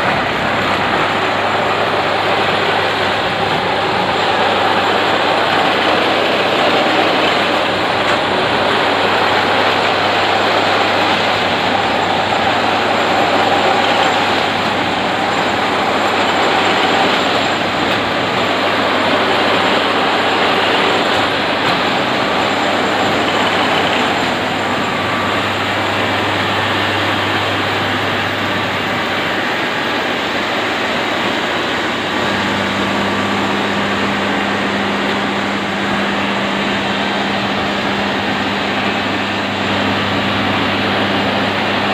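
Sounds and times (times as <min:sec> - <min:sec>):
track tamping machine din: 0:00.0 - 0:41.9.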